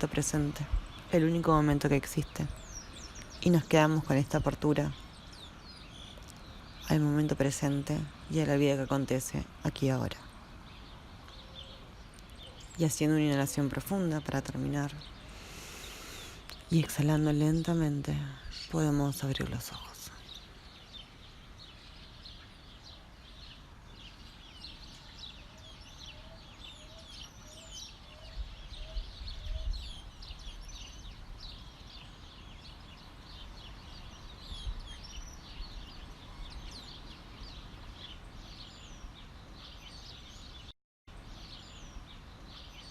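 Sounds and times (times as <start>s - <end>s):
small birds chirping and twittering: 0.0s - 42.9s.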